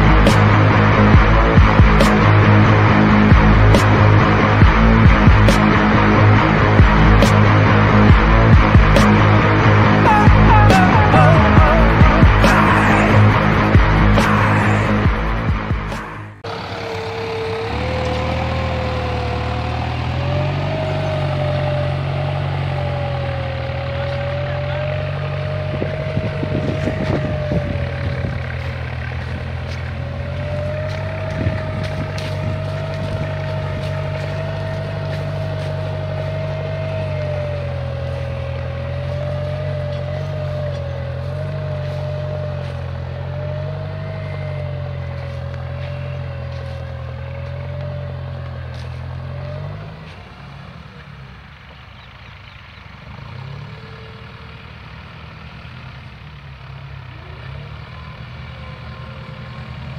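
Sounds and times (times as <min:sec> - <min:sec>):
diesel tractor engine under load: 0:00.0 - 0:59.9.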